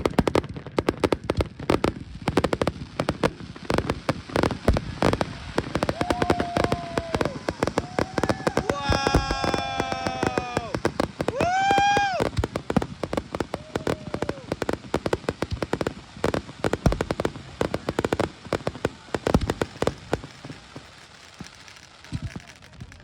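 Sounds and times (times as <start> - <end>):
fireworks crackling and popping: 0.0 - 23.0
firework whistling: 3.0 - 23.0.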